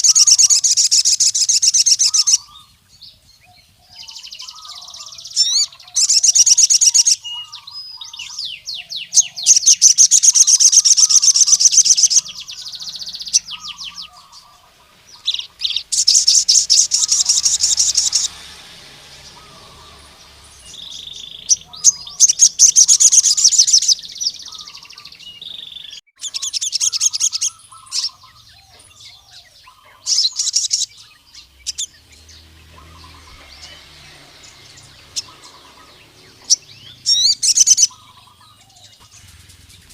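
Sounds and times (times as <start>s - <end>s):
bird chips: 0.0s - 39.9s
bird high rapid trilling: 0.0s - 39.9s
fainter lower bird chirps: 0.0s - 39.9s.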